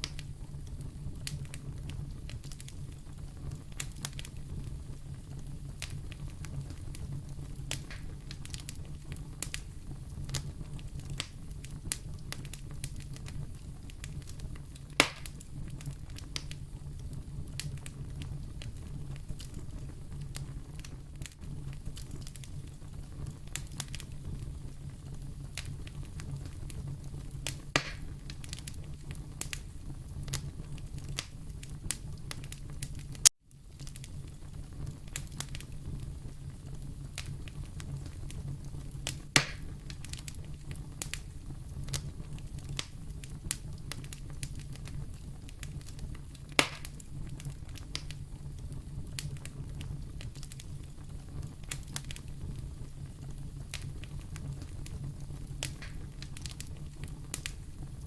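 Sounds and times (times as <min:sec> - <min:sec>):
loud pops of fire: 0:00.0 - 0:58.0
wood fire crackling: 0:00.0 - 0:58.0.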